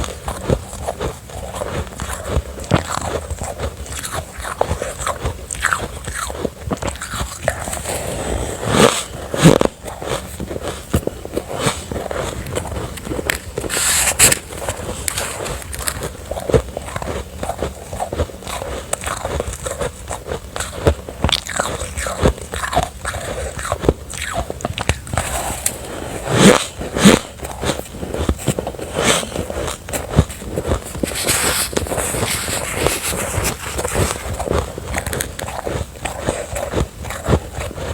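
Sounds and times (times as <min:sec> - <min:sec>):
chewing crunchy ice: 0:00.0 - 0:37.9.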